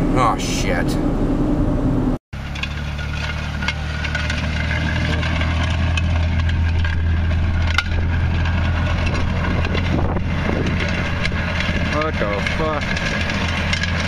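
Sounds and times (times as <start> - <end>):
car engine droning: 0.0 - 14.0
clicks and crackling rattles: 2.4 - 14.0.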